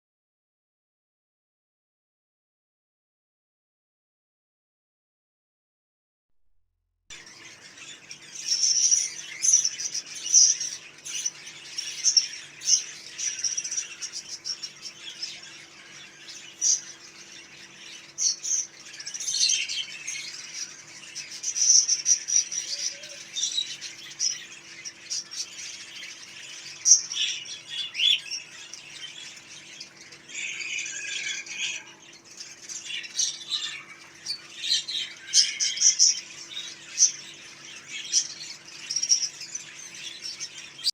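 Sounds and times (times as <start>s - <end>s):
caged birds chirping: 7.1s - 40.9s.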